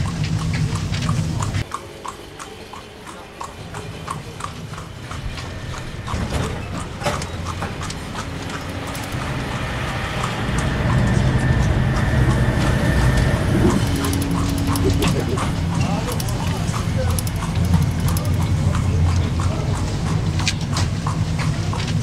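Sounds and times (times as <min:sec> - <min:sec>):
horse hooves clip-clopping: 0:00.0 - 0:22.0
low rumble of moving train: 0:03.2 - 0:22.0.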